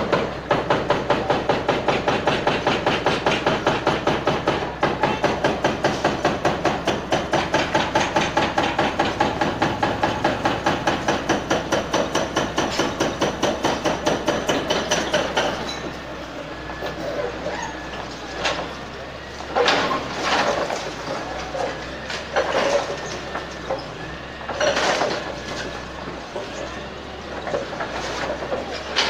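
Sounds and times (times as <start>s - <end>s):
hydraulic breaker hammering concrete: 0.0s - 16.1s, 16.8s - 29.0s.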